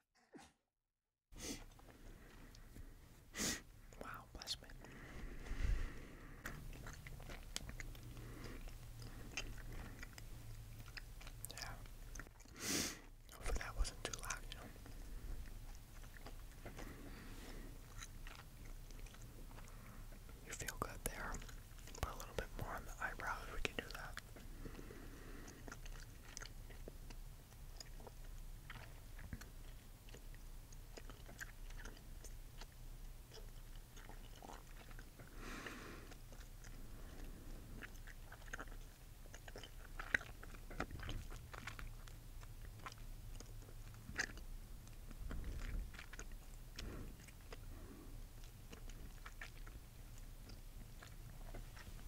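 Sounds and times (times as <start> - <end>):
gum chewing clicks and smacks: 3.6 - 52.0.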